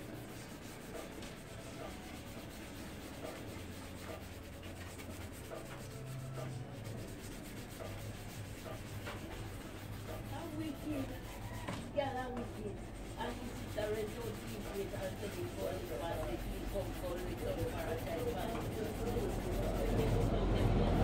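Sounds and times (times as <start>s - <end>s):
toothbrush scrubbing plastic: 0.0s - 20.9s
low steady hum: 0.0s - 21.0s.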